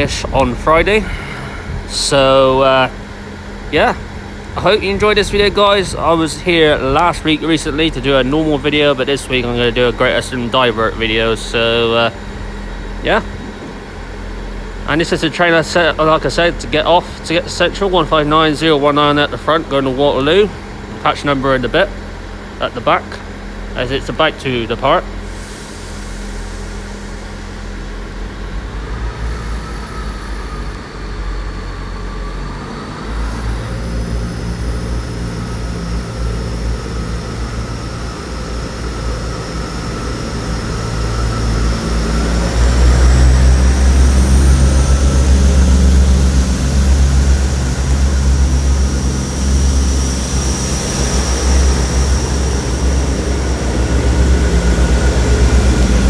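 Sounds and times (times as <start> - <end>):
diesel train engines running: 0.0 - 56.0
high whine: 0.0 - 56.0.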